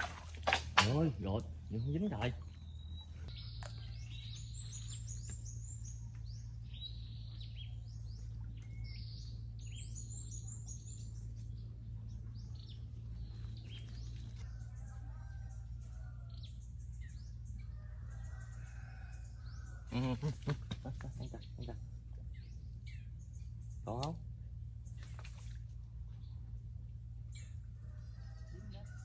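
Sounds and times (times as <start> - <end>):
low steady hum: 0.0 - 29.0
small birds chirping: 0.9 - 29.0.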